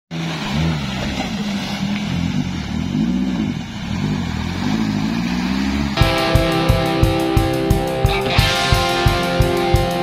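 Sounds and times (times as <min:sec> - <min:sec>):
driving through mud puddle: 0:00.1 - 0:08.3
suv engine revving: 0:00.1 - 0:10.0.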